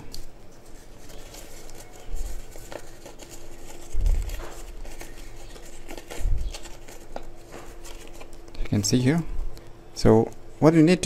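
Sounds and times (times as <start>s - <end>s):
paper fan crinkling: 0.0s - 10.7s.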